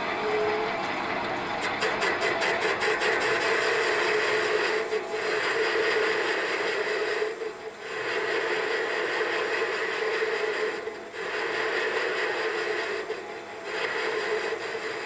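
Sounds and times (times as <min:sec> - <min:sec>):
metal lathe cutting with hiss and whine: 0:00.0 - 0:15.0.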